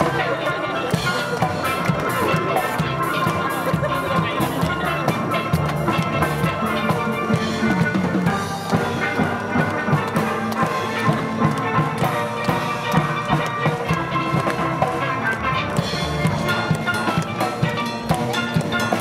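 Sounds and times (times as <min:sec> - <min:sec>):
percussion steady beat: 0:00.0 - 0:19.0
steelpans ringing out notes: 0:00.0 - 0:19.0.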